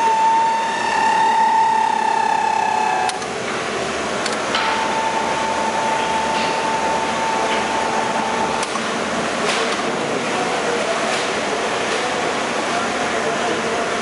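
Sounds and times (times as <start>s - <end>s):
machine whirring: 0.0s - 14.0s.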